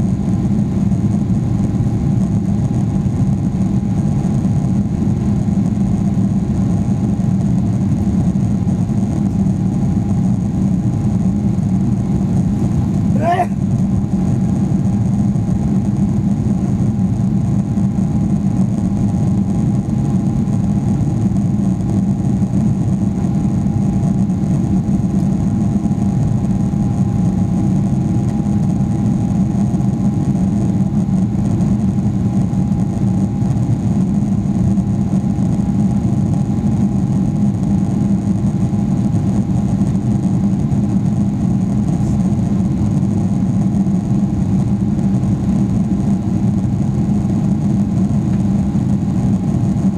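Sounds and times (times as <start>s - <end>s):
faint steady whine: 0.0s - 49.9s
jet engine drone in cabin: 0.0s - 49.9s.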